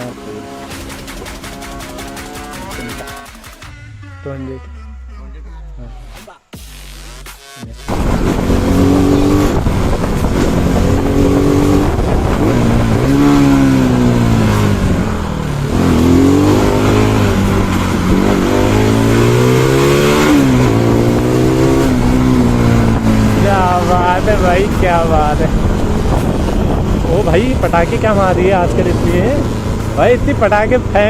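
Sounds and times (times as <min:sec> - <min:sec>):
motorcycle engine accelerating: 0:00.0 - 0:03.9, 0:07.9 - 0:31.0.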